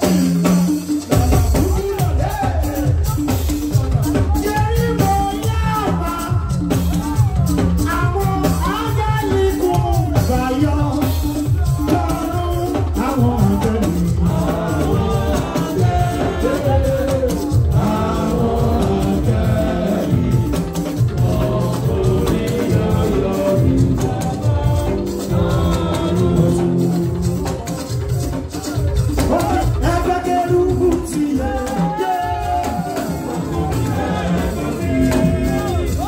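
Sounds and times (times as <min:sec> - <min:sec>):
live band music: 0:00.0 - 0:36.0
person singing into a microphone: 0:01.1 - 0:36.0.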